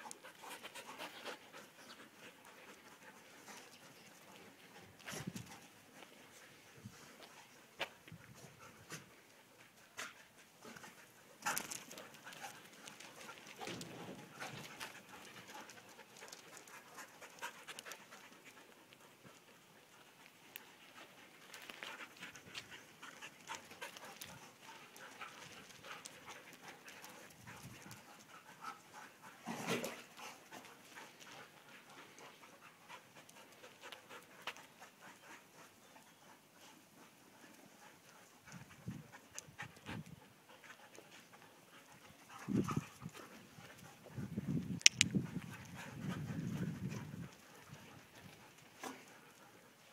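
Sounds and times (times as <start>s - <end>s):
dogs panting: 0.0s - 49.9s.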